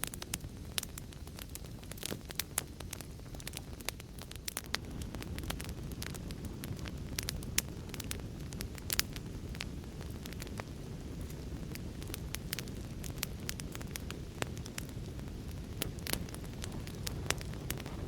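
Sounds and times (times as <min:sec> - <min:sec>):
low roar of flames: 0:00.0 - 0:18.0
wood fire crackling: 0:00.0 - 0:18.0.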